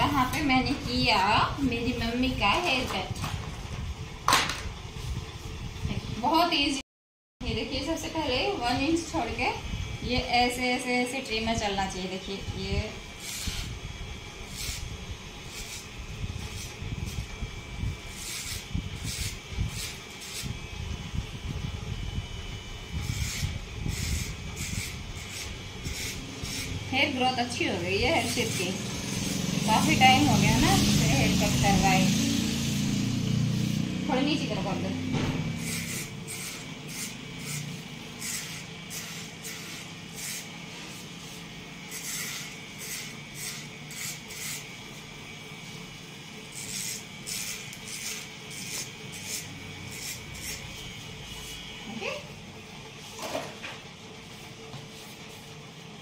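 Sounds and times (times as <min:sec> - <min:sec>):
electric hair trimmer cutting: 0:00.0 - 0:03.3, 0:08.0 - 0:52.3.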